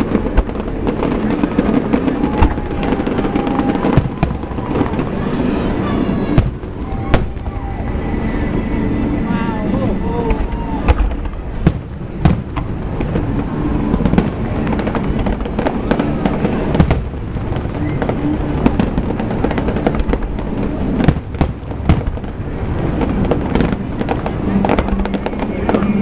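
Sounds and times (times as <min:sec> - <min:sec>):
fireworks bursting and crackling: 0:00.0 - 0:26.0
sharp firework reports: 0:00.0 - 0:26.0.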